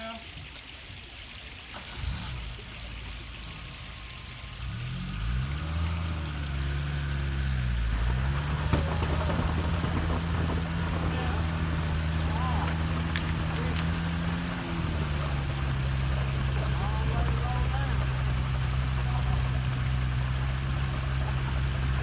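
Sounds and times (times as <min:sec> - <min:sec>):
steady water hiss: 0:00.0 - 0:08.6, 0:09.2 - 0:22.0
vehicle engine revving: 0:01.8 - 0:22.0.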